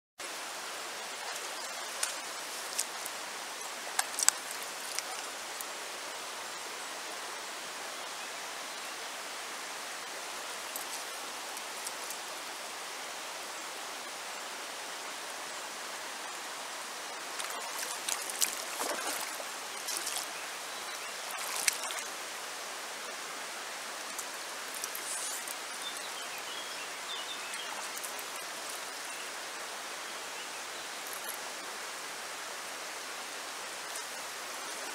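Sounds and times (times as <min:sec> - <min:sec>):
river water rushing: 0:00.2 - 0:34.9.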